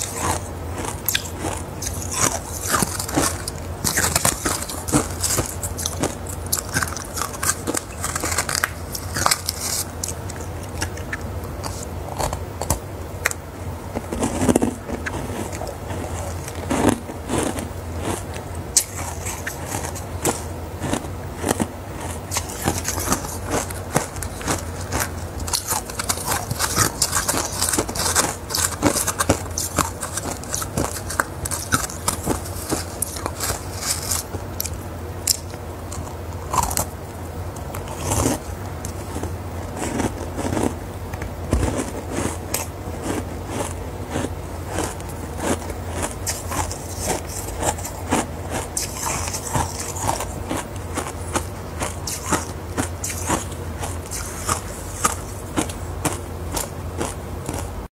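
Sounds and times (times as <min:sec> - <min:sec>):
ice crunching while chewed: 0:00.0 - 0:57.8.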